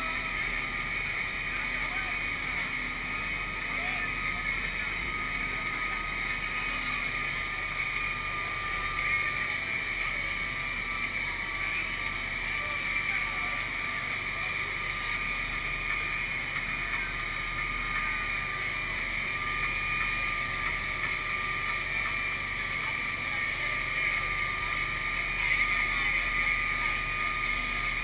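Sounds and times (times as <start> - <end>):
motor noise: 0.0 - 28.0
thin high tone: 0.0 - 28.0.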